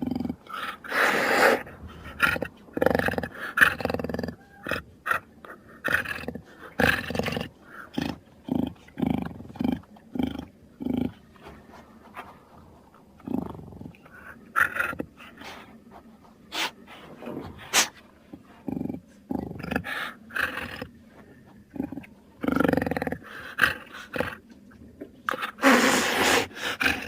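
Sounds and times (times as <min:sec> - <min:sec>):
jaguar grunting and growling: 0:00.0 - 0:11.2, 0:13.2 - 0:15.7, 0:16.5 - 0:21.0, 0:21.7 - 0:24.4, 0:25.3 - 0:27.0.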